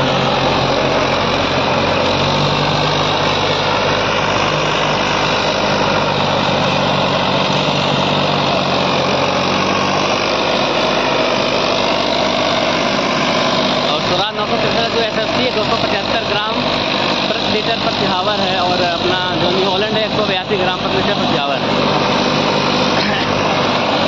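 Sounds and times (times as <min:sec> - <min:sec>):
rotary tiller through soil: 0:00.0 - 0:24.0
tractor diesel engine running: 0:00.0 - 0:24.0.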